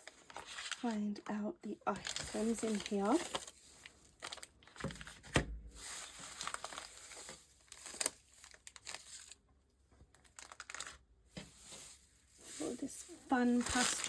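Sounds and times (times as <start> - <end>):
shredded paper rustling: 0.0 - 1.0, 1.9 - 9.4, 10.2 - 14.0.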